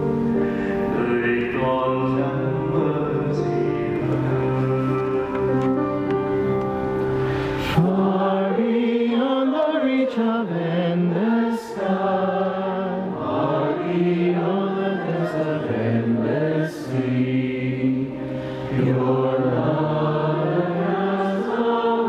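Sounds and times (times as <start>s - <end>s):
choir singing a hymn: 0.0s - 22.0s.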